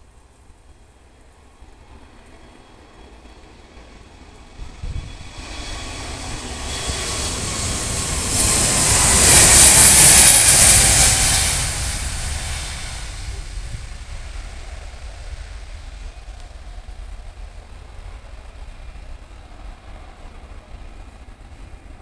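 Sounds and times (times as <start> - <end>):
jet engine roar passing: 1.9 - 22.0.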